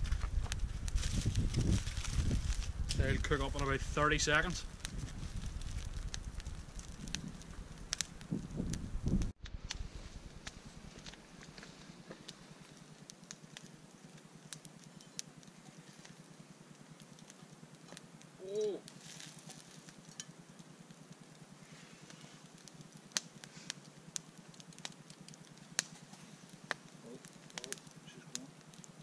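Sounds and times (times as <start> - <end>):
wood campfire crackling: 0.0 - 29.0.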